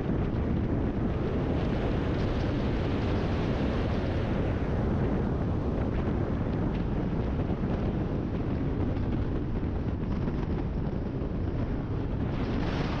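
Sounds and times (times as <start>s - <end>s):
wind rush and buffeting: 0.0s - 13.0s.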